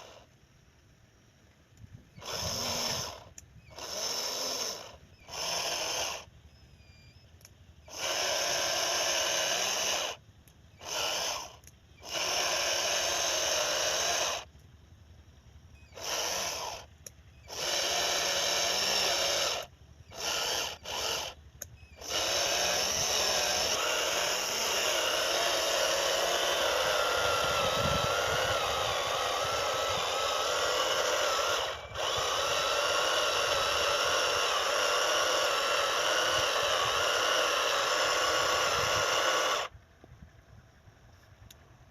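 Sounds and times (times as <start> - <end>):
small electric motors whining: 0.0 - 0.4, 1.7 - 39.8.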